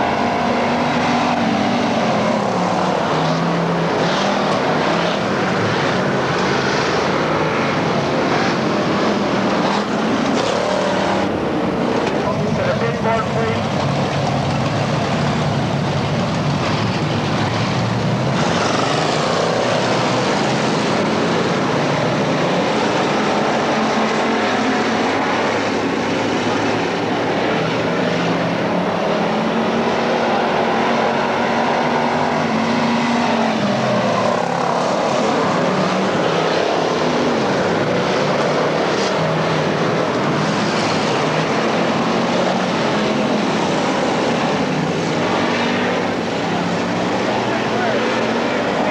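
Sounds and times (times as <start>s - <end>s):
race car engines passing: 0.0s - 48.9s.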